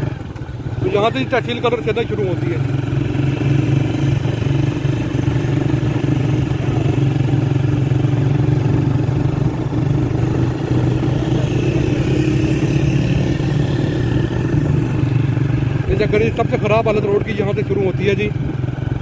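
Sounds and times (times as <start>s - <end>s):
road noise: 0.0s - 19.0s
vehicle engine humming: 0.0s - 19.0s.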